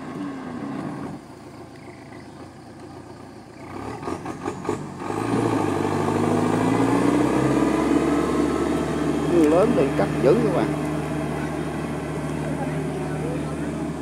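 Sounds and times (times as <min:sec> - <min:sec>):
tractor diesel engine labouring: 0:00.0 - 0:14.0.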